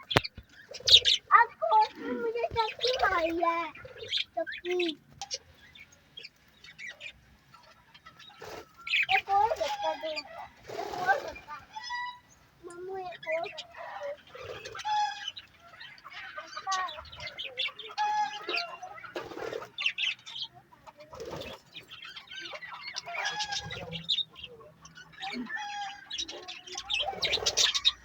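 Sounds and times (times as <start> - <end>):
parrots squawking and chirping: 0.0 - 28.0.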